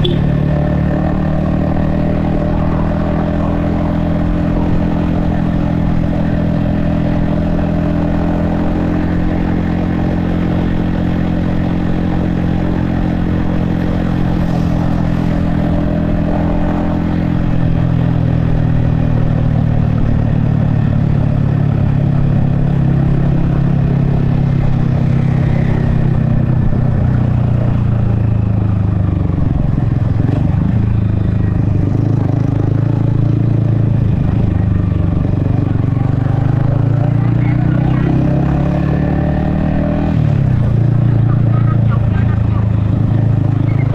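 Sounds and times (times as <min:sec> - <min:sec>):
motorcycle engine and exhaust running: 0:00.0 - 0:43.9.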